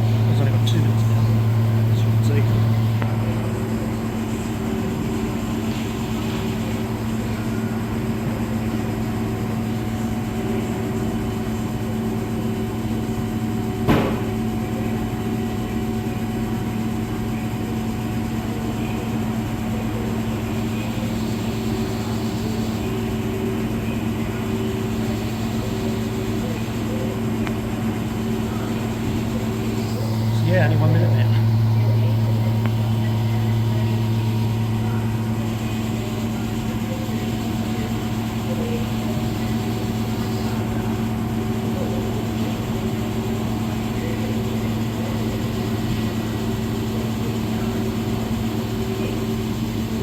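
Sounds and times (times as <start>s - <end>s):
washing machines spinning hum: 0.0s - 50.0s.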